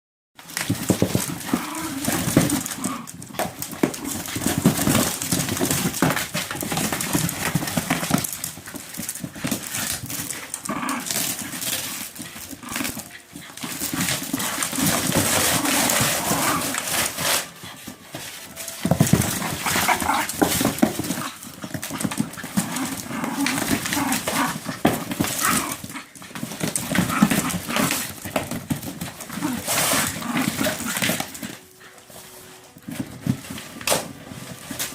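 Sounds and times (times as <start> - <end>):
dog ripping and tearing: 0.4 - 34.9.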